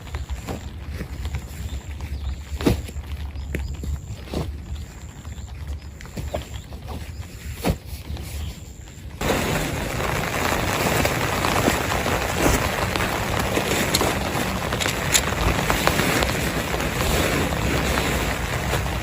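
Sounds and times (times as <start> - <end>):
heavy rain falling: 0.0 - 7.2, 9.0 - 19.0.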